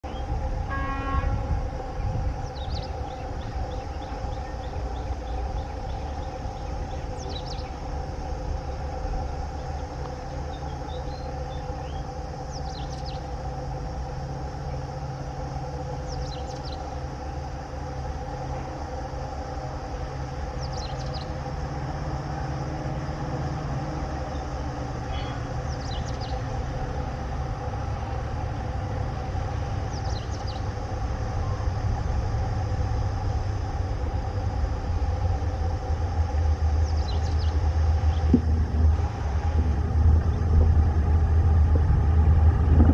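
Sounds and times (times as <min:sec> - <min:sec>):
diesel engine drone: 0:00.0 - 0:42.9
goods train rumbling: 0:00.0 - 0:42.9.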